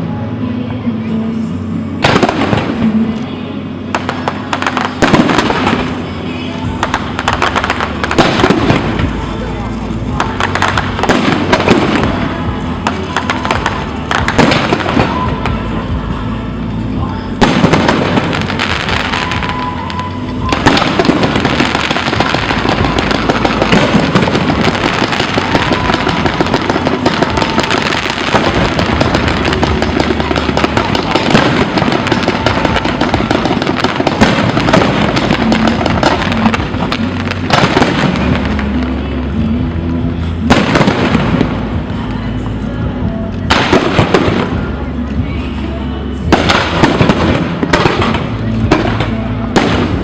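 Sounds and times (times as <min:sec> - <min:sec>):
music playing: 0:00.0 - 0:50.0
fireworks crackling: 0:01.9 - 0:50.0
fireworks bangs: 0:02.0 - 0:03.2, 0:03.8 - 0:16.3, 0:17.4 - 0:42.5, 0:43.4 - 0:45.5, 0:46.1 - 0:50.0.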